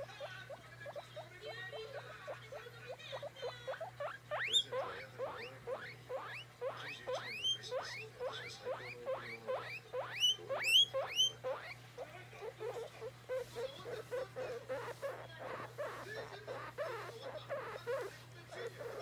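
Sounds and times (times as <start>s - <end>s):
guinea pig wheeking: 0.0s - 19.0s.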